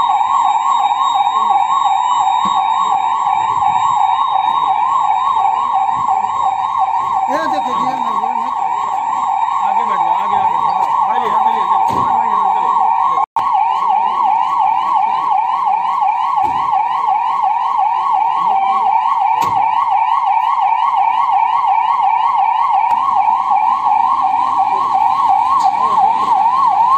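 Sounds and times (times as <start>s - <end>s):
ambulance siren yelping: 0.0s - 26.9s.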